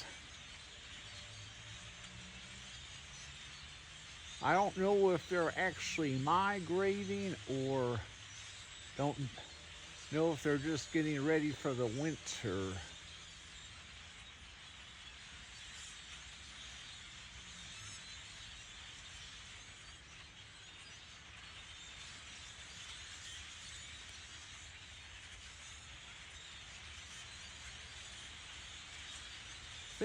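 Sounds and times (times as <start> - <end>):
large flock of birds chattering: 0.0 - 30.0.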